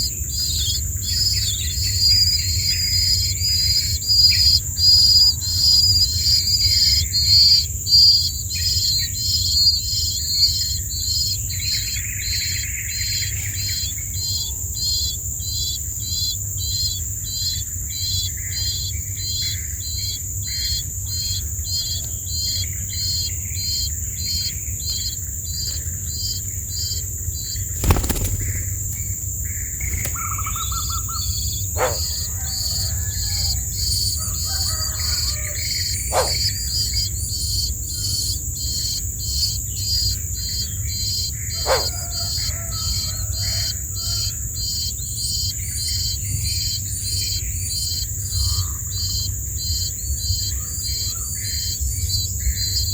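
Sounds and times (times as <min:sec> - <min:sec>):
birds chirping: 0:00.0 - 0:52.9
insect drone: 0:00.0 - 0:52.9.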